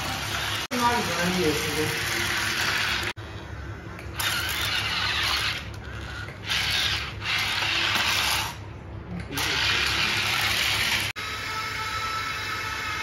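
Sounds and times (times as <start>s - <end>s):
toy motors and gearboxes whirring: 0.0s - 3.2s, 4.1s - 8.7s, 9.3s - 13.0s
steady low hum: 0.0s - 13.0s.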